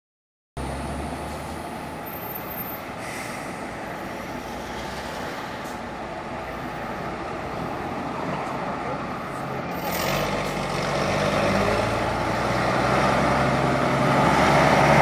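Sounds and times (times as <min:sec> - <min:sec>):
lorry diesel engines rumbling: 0:00.6 - 0:15.0.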